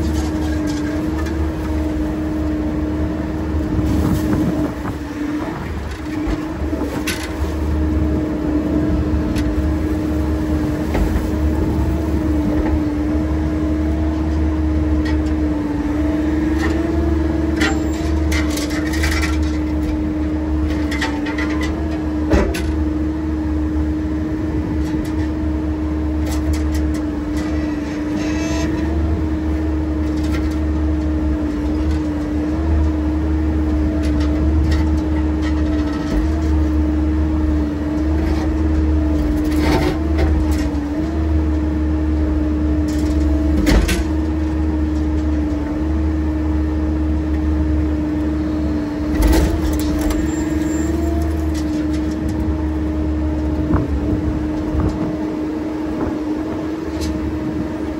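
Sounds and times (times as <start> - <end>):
heavy machine engine rumbling: 0.0 - 57.9.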